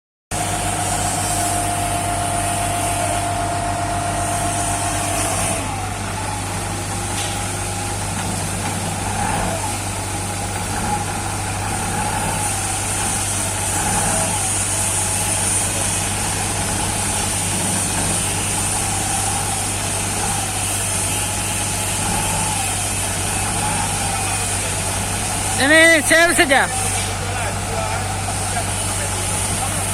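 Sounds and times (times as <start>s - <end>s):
loader engine running: 0.3s - 29.9s
wavering machine whine: 0.4s - 29.9s.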